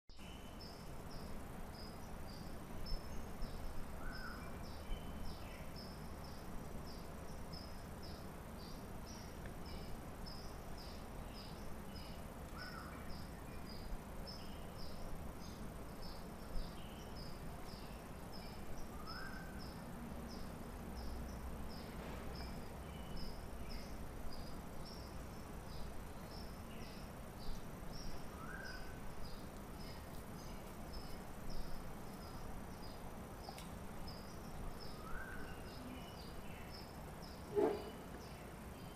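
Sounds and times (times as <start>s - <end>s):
faint low hum: 0.1s - 38.9s.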